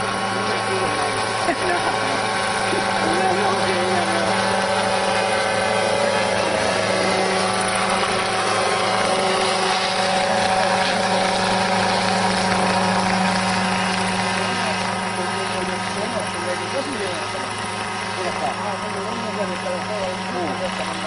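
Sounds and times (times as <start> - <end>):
small helicopter engine and rotors: 0.0 - 21.0.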